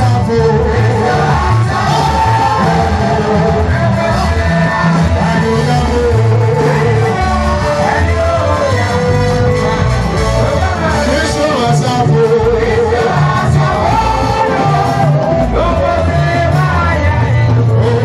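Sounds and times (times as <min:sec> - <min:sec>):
loud music with bass line: 0:00.0 - 0:18.0
person singing: 0:00.0 - 0:18.0.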